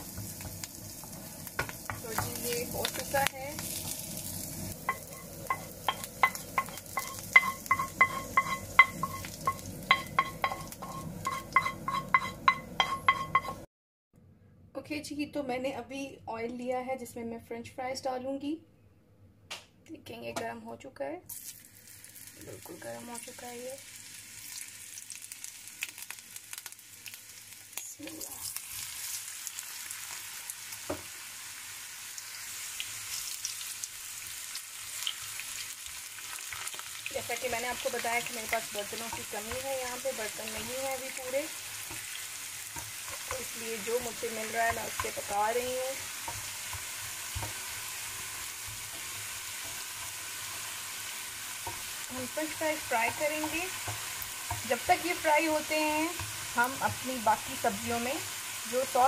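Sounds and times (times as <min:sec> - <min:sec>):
fries sizzling in hot oil: 0:00.0 - 0:13.7, 0:21.3 - 0:59.0.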